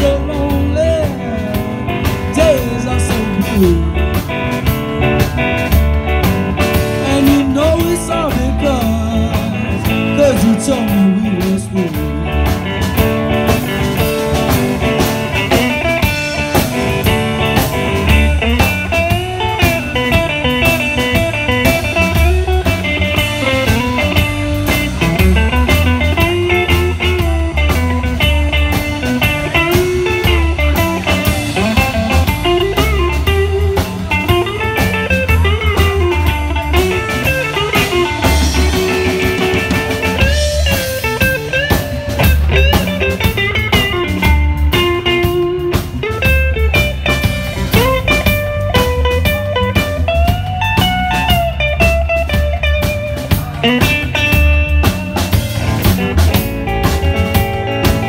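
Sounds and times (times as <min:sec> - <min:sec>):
drum kit: 0:00.0 - 0:58.0
electric bass: 0:00.0 - 0:58.0
electric guitar lead lines: 0:00.0 - 0:58.0.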